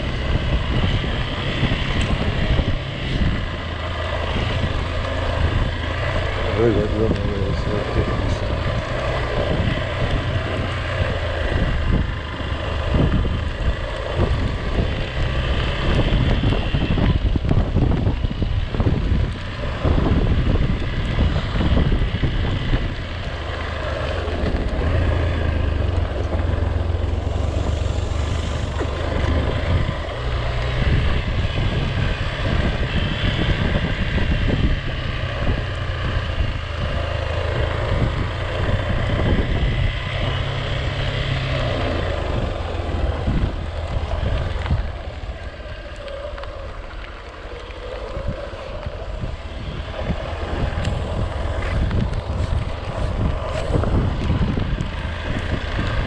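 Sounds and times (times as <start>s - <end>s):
vehicle engine rumble: 0.0s - 56.0s
wind buffeting microphone: 0.0s - 56.0s.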